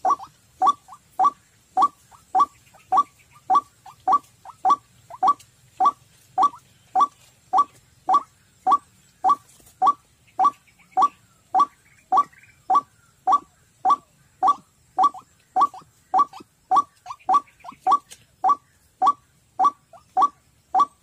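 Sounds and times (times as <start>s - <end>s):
waterhen call from small speaker: 0.0s - 21.0s.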